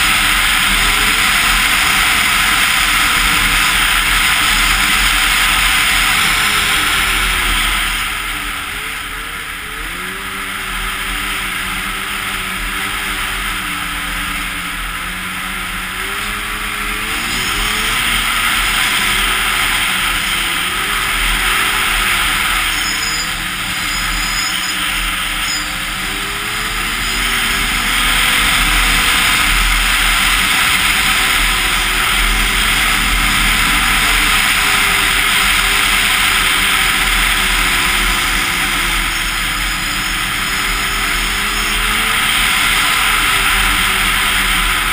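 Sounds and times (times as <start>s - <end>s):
snowmobile engine running: 0.0s - 44.9s.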